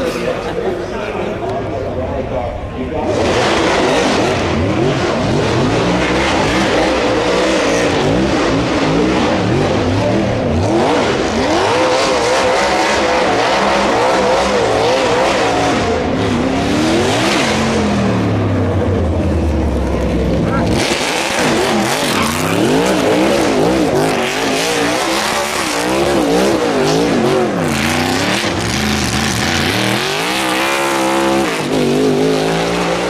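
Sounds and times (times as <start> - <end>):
racing car engine revving: 0.0 - 33.0.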